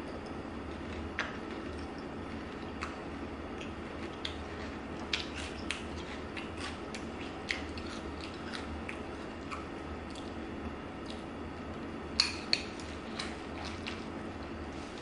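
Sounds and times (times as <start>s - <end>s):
crunchy cereal chewing: 0.1s - 15.0s.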